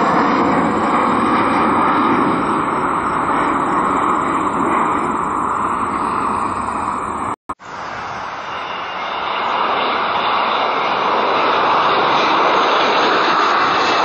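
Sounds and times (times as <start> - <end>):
jet airliner taking off: 0.0 - 14.0.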